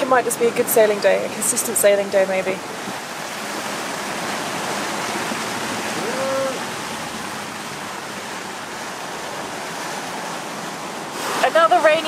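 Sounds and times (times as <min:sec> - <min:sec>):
waves breaking: 0:00.0 - 0:12.0.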